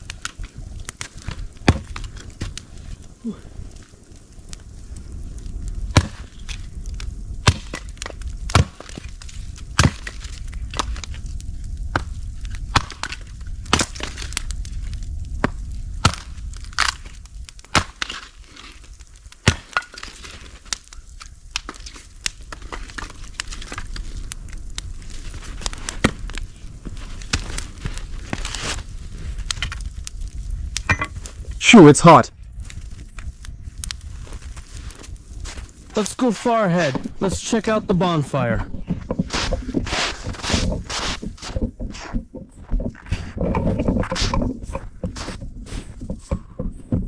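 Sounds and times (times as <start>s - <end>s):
bonfire crackling and popping: 0.0s - 47.0s
low fire roar: 0.0s - 47.0s.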